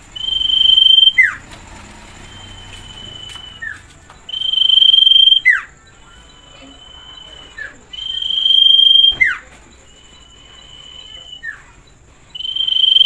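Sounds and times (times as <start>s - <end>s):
faint steady high tone: 0.0s - 13.0s
songbird singing: 0.0s - 13.0s.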